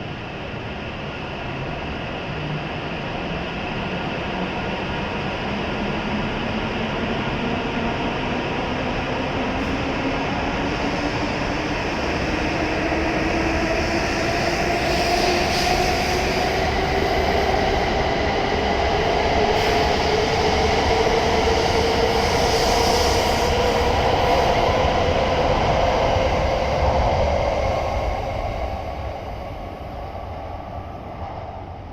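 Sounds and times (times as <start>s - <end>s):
train rumbling: 0.0s - 31.9s.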